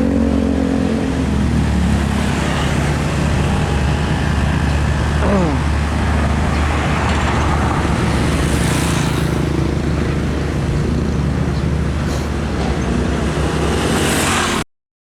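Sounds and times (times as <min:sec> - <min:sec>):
heavy trucks passing: 0:00.0 - 0:14.7
tyre and road noise: 0:00.0 - 0:14.7.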